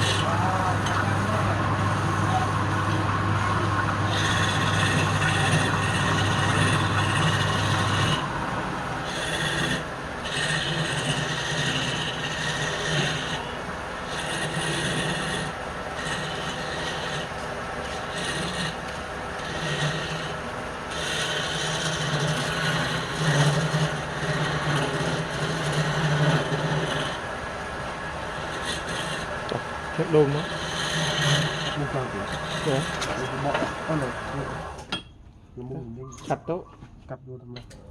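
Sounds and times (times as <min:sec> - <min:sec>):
turning tool scraping wood: 0:00.0 - 0:34.9
wood lathe motor hum: 0:00.0 - 0:35.0.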